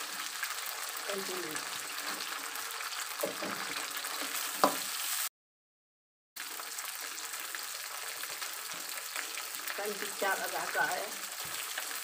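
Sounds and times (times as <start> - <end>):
onions sizzling in hot oil: 0.0 - 5.3, 6.4 - 12.0.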